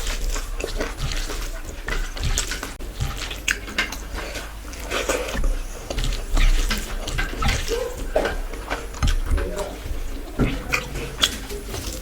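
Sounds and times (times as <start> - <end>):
wet chewing and biting: 0.0 - 12.0.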